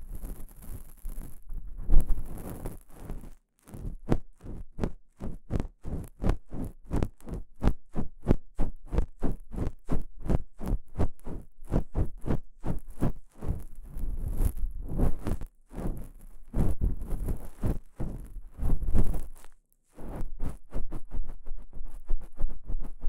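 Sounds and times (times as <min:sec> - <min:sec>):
ear pick scraping: 0:00.0 - 0:04.9, 0:08.9 - 0:23.0.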